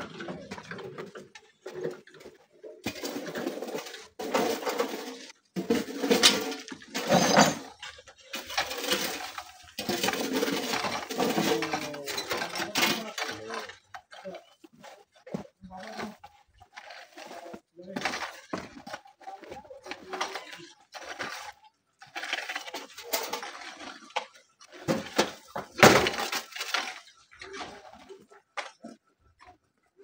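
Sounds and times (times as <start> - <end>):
rocks clattering into wheelbarrows: 0.0 - 29.6
shovels scraping into gravel: 2.8 - 14.7, 15.6 - 28.3.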